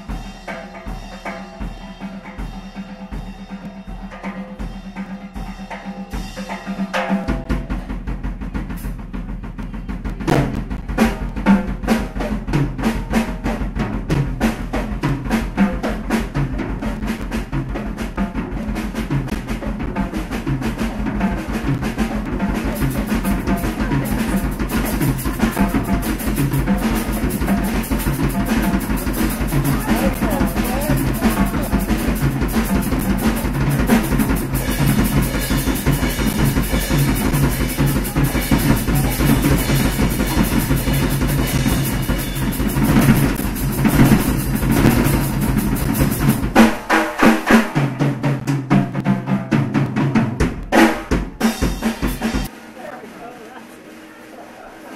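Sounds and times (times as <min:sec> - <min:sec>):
cymbals: 0:00.0 - 0:54.9
drum kit fast beat: 0:00.0 - 0:54.9.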